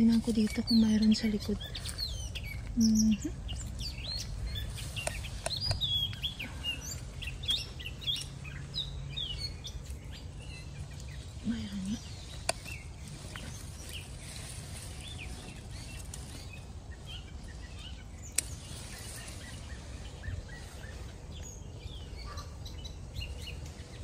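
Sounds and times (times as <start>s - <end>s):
low steady rumble: 0.0s - 24.0s
small birds chirping: 0.0s - 24.0s.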